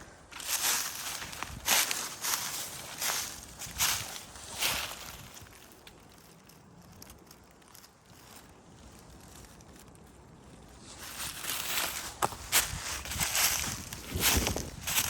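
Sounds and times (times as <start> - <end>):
footsteps crunching on path: 0.0 - 9.9, 10.6 - 15.0.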